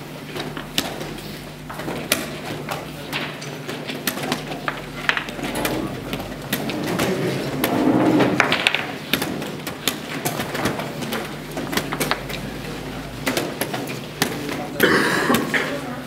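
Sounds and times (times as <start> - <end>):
low murmur of voices: 0.0 - 16.0
steady low hum: 0.0 - 16.0
chess pieces clicking on boards: 1.7 - 15.4.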